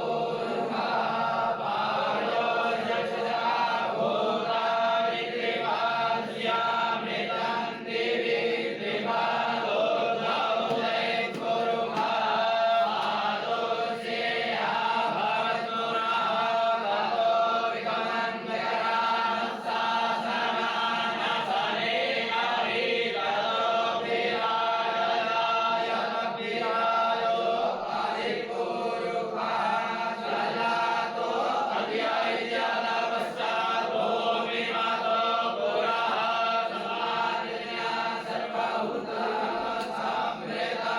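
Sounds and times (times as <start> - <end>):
group of voices chanting: 0.0 - 40.9.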